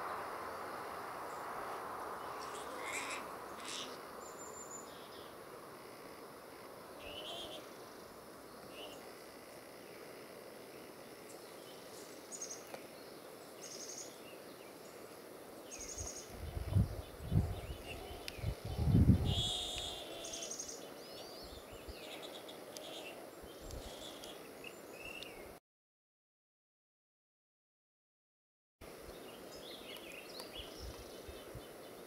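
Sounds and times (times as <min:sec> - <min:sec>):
small birds chirping: 0:01.2 - 0:05.4, 0:07.0 - 0:25.6, 0:29.0 - 0:32.0.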